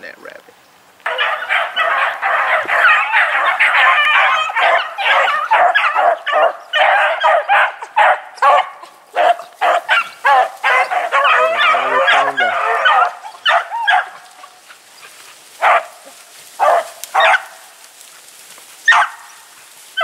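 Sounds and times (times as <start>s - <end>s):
dogs baying and barking: 1.0s - 20.0s.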